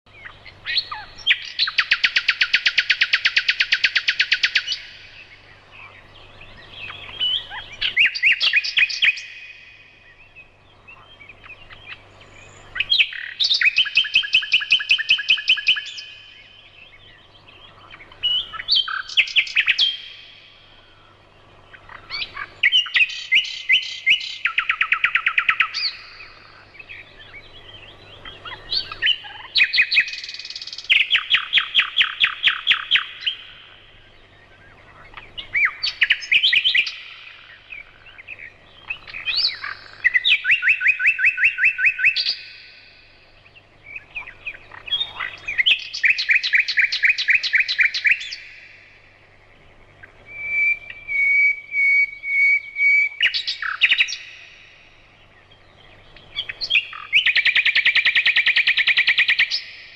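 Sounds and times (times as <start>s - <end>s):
songbird singing trills: 0.1s - 59.9s.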